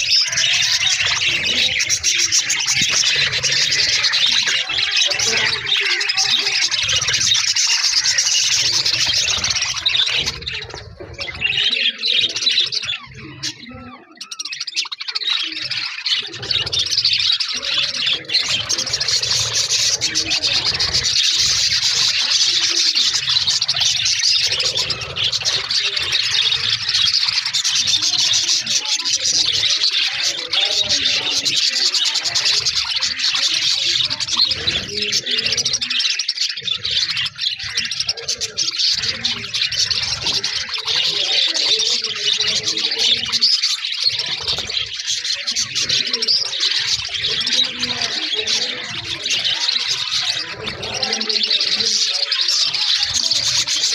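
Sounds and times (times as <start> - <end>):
budgerigars chattering and chirping: 0.0 - 53.9.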